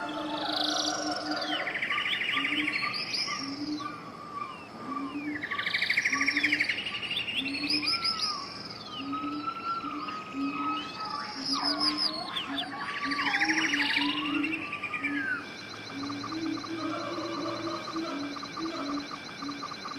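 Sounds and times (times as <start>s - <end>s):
birds singing trills and whistles: 0.0s - 19.9s.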